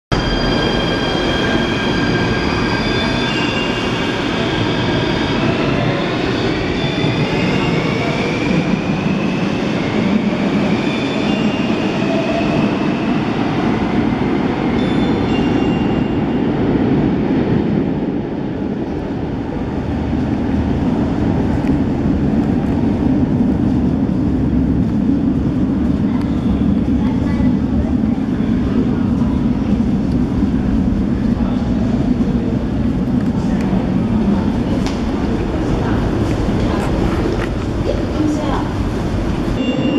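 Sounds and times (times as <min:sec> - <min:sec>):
echoing station background noise: 0:00.1 - 0:39.9
train running rumble: 0:00.2 - 0:39.9.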